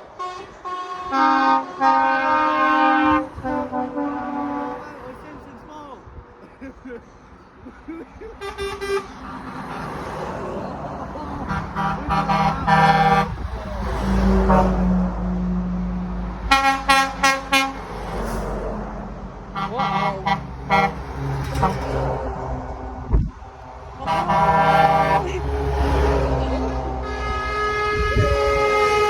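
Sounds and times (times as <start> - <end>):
truck horns tooting: 0.0 - 5.5, 8.3 - 10.2, 11.0 - 18.8, 19.4 - 29.0
truck engine rumble: 0.0 - 29.0.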